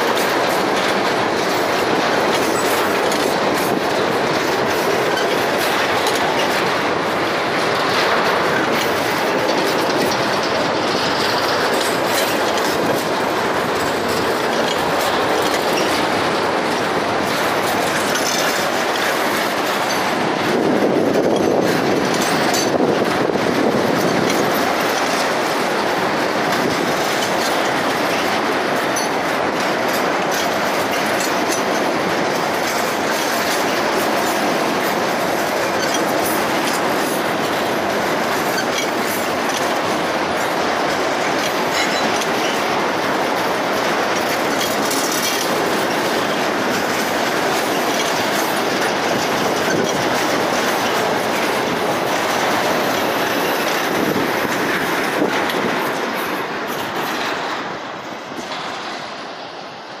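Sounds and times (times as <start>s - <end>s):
freight train rumbling past: 0.0s - 60.0s
wheels clicking over rail joints: 0.0s - 60.0s.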